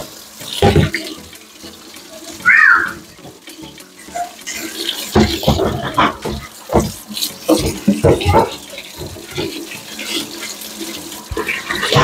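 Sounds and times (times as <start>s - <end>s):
tap water running into sink: 0.0s - 12.0s
dishes clattering: 0.5s - 1.4s, 3.0s - 12.0s.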